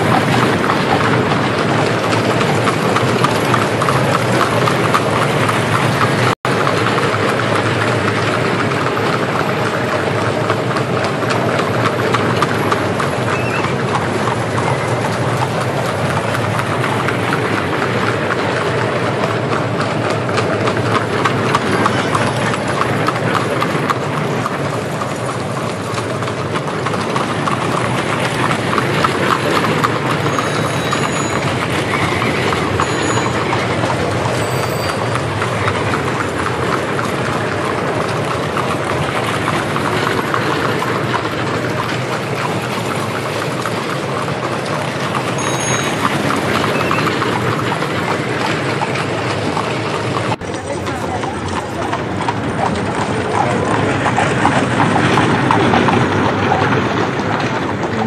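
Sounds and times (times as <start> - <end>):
carriage wheels rumbling: 0.0 - 58.0
horse hooves clip-clopping: 0.0 - 58.0.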